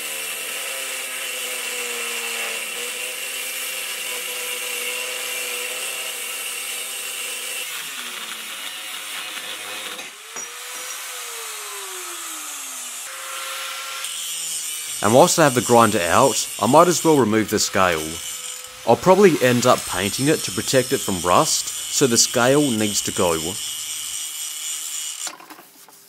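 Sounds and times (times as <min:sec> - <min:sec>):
angle grinder cutting steel: 0:00.0 - 0:25.6.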